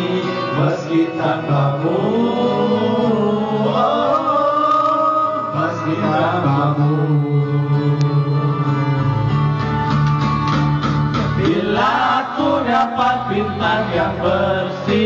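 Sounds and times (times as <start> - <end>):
pop karaoke backing track: 0.0 - 15.0.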